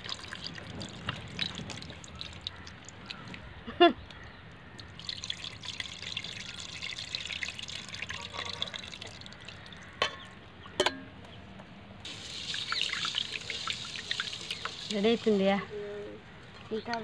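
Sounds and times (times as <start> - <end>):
water splashing and trickling: 0.0 - 10.8, 12.0 - 17.0.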